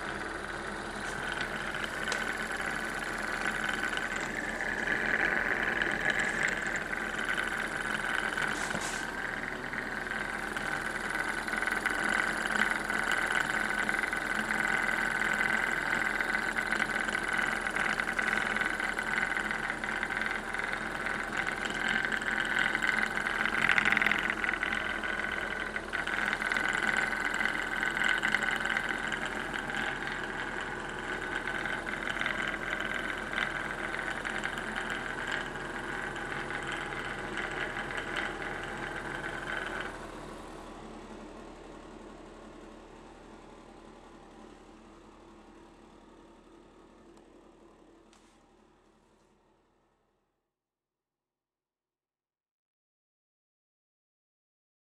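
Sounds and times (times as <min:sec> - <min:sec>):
stirling engine mechanical drone: 0:00.0 - 0:49.0.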